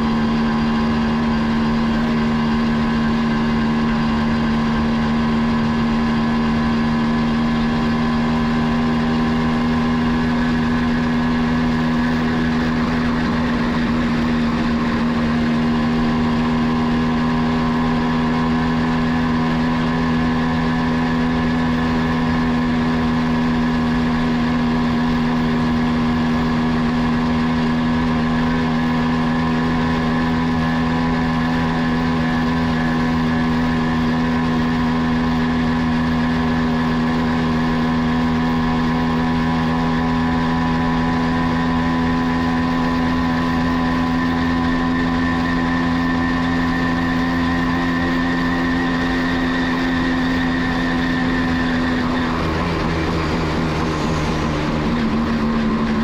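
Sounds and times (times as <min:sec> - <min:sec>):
two-stroke motorcycle engine cruising: 0:00.0 - 0:56.0.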